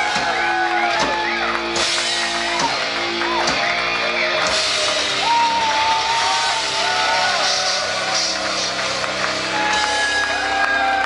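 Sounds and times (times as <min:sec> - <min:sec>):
rock band playing: 0:00.0 - 0:11.0.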